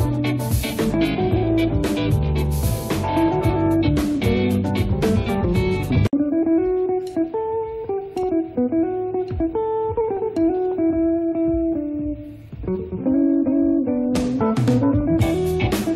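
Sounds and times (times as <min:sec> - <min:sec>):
slow guitar melody: 0:00.0 - 0:15.9.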